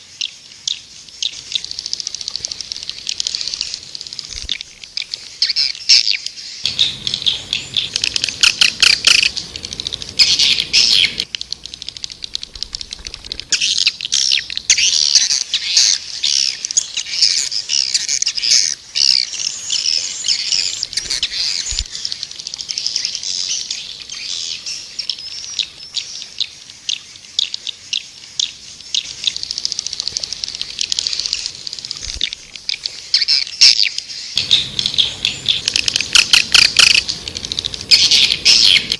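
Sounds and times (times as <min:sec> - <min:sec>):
swiftlets twittering: 0:01.3 - 0:25.5, 0:28.8 - 0:38.9.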